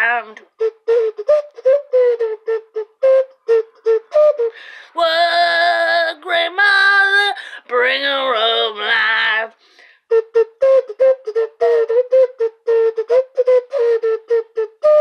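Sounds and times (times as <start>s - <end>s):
woman vocalising high notes: 0.0s - 15.0s.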